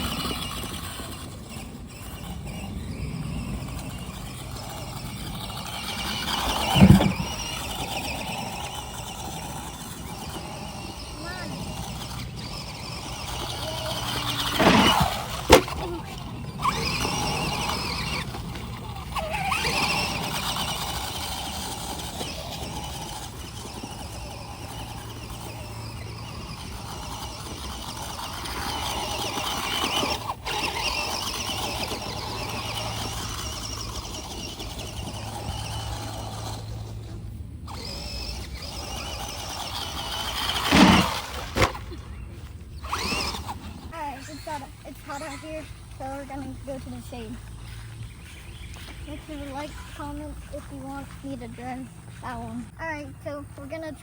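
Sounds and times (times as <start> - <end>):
electric rc car motors whining: 0.0 - 54.0.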